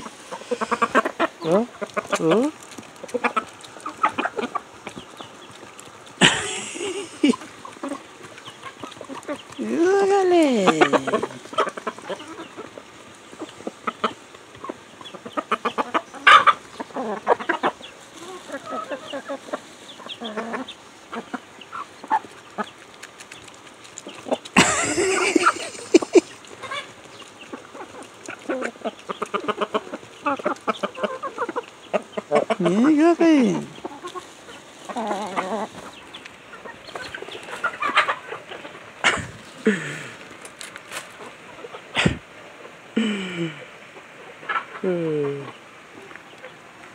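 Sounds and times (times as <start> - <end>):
hens clucking softly: 0.0 - 46.9.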